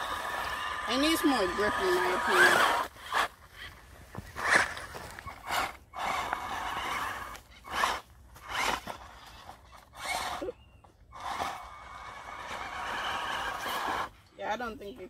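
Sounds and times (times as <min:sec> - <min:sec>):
electric motor whining: 0:00.0 - 0:03.7, 0:04.4 - 0:14.2
tires spinning in sand: 0:00.0 - 0:10.5, 0:11.1 - 0:14.2.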